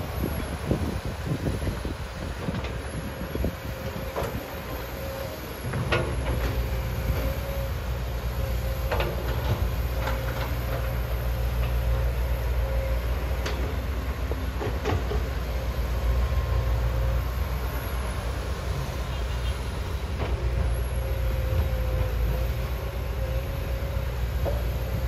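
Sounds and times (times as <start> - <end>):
excavator diesel engine drone: 0.0 - 25.0.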